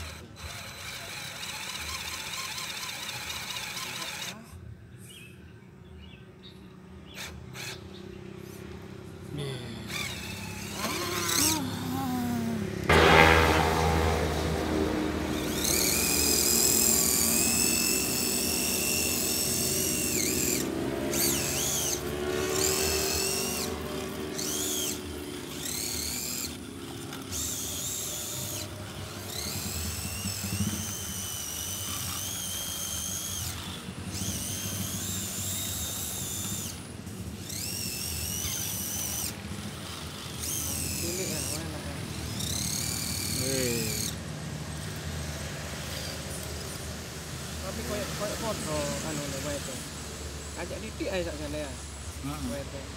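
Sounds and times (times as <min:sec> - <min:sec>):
electric motors whining: 0:00.0 - 0:04.6, 0:07.0 - 0:52.9.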